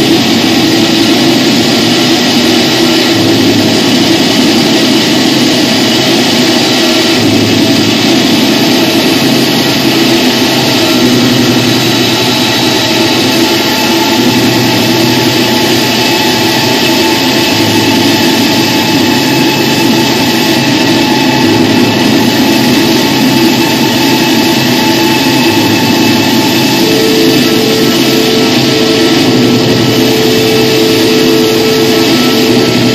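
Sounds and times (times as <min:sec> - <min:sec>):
dense electronic noise: 0:00.0 - 0:32.9
low drone: 0:00.0 - 0:32.9
steady higher tone: 0:00.0 - 0:32.9.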